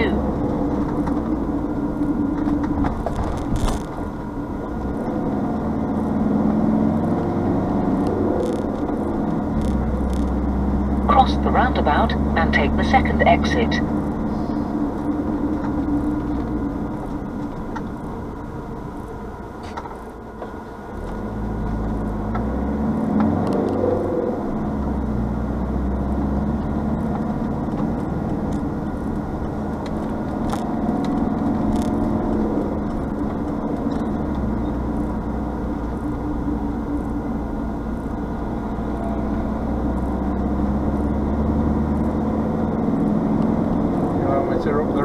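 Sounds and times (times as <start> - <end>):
vehicle engine droning: 0.0 - 45.0.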